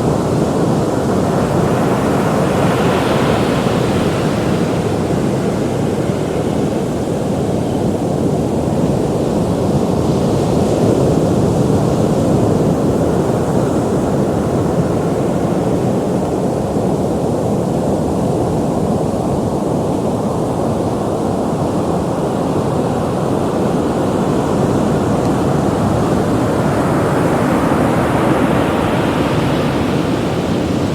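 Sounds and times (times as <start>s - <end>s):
ocean waves breaking: 0.0s - 16.2s, 21.6s - 30.9s.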